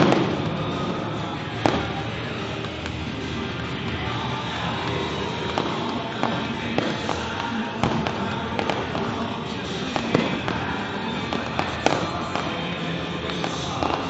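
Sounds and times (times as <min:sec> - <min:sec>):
continuous rumble: 0:00.0 - 0:14.0
fireworks bangs and crackling: 0:00.0 - 0:14.0
music playing: 0:00.0 - 0:14.0.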